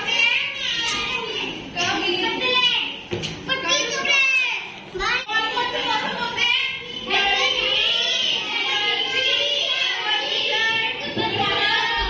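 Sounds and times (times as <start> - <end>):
children calling out in chorus: 0.0 - 12.0.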